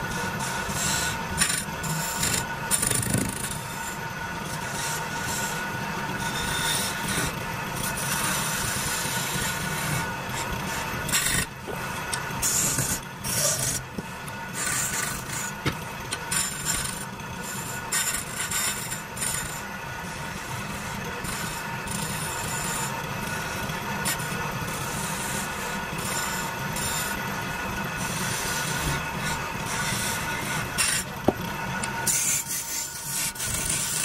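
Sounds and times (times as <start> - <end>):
chisel scraping spinning wood: 0.0 - 34.0
wood lathe running: 0.0 - 34.0.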